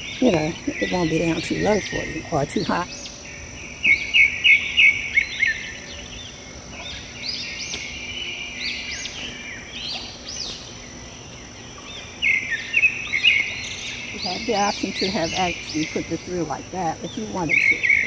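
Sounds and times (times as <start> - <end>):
steady high-pitched buzz: 0.0 - 18.0
wild birds singing: 0.0 - 18.0.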